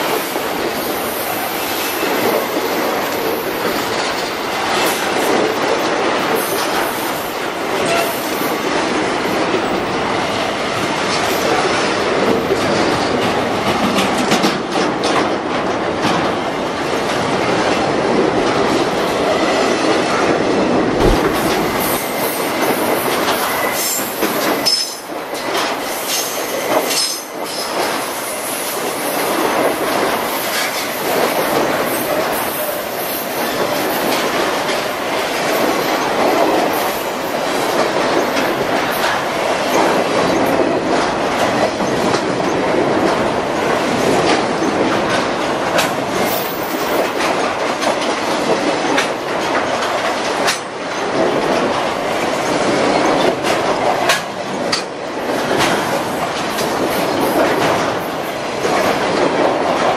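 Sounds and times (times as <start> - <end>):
train wheels rumbling and clattering: 0.0 - 59.9.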